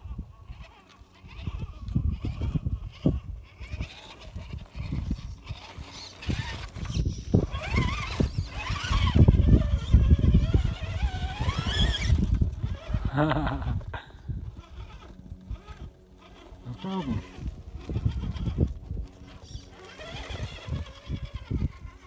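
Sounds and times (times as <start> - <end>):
toy car motor whine: 0.0 - 22.0.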